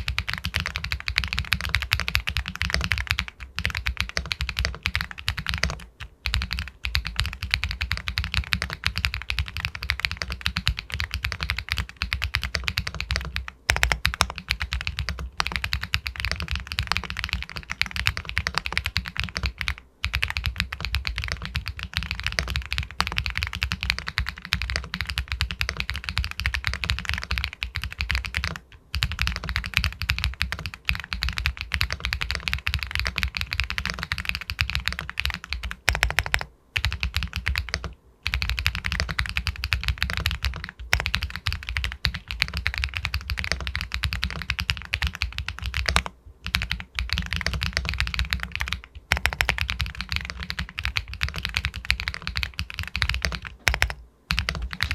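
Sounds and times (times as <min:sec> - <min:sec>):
fast mechanical keyboard typing: 0:00.0 - 0:54.9.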